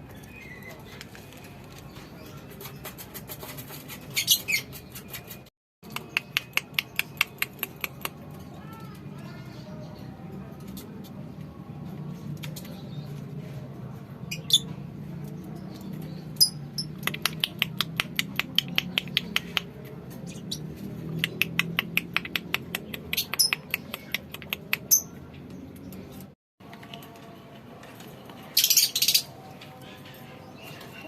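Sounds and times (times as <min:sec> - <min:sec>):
lovebirds chirping: 0:00.0 - 0:10.2, 0:14.2 - 0:26.4, 0:28.4 - 0:31.0
rapid clicking chatter: 0:00.2 - 0:09.5, 0:14.7 - 0:31.0.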